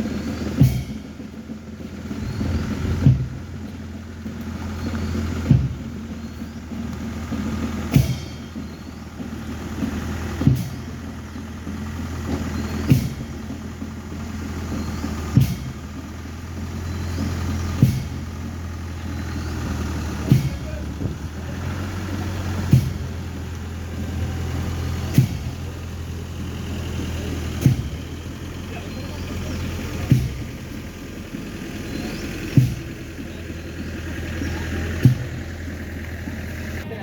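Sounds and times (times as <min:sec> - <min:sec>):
sharp knocking beat: 0:00.0 - 0:36.5
vehicle engine humming: 0:00.0 - 0:37.0.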